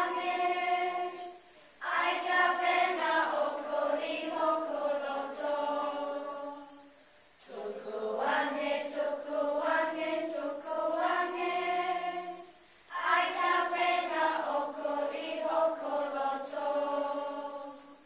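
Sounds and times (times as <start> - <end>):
children singing in unison: 0.0 - 18.0.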